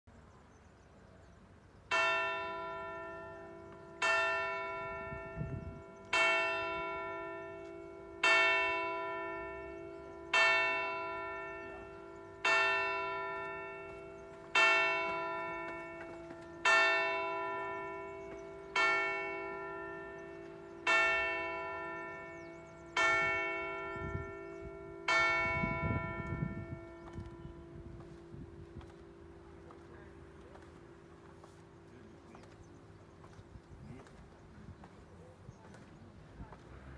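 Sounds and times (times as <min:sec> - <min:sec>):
large church bell ringing: 0:01.9 - 0:33.5.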